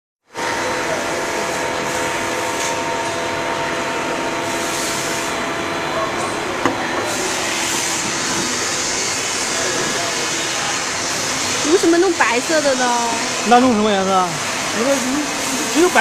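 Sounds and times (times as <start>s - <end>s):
machine hum and hiss: 0.3s - 16.0s.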